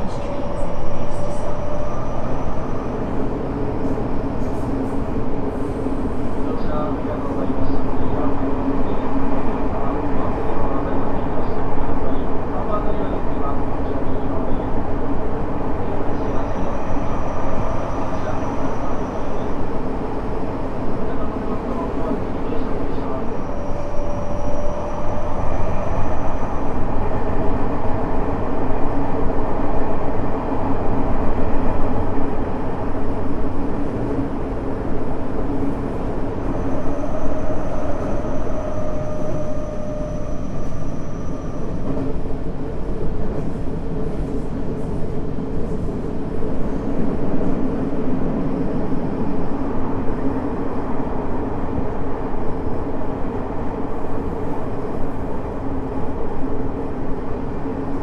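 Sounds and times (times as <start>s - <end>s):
subway wheels rumbling on track: 0.0s - 58.0s.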